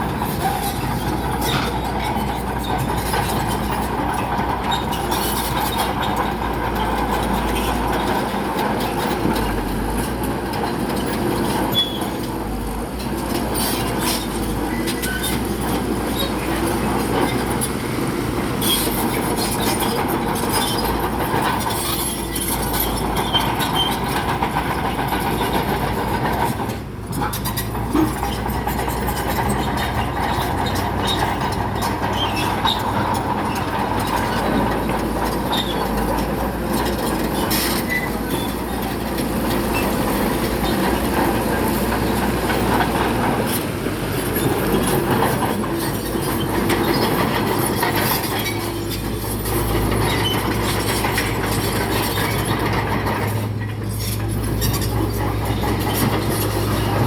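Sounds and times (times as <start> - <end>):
bulldozer diesel engine: 0.0 - 57.0
steel tracks clanking: 0.0 - 57.0.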